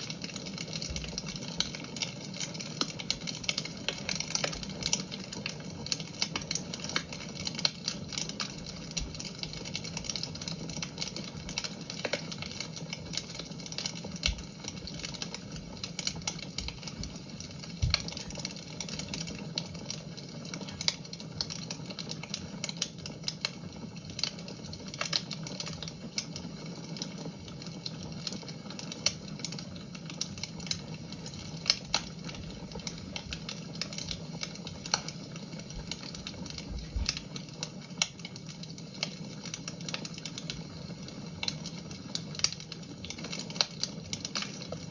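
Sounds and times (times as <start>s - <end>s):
fire crackling in a fireplace: 0.0s - 44.9s.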